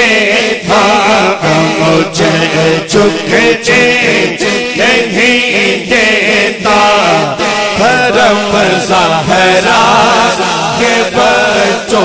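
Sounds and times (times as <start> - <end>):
man chanting unaccompanied: 0.0 - 12.0.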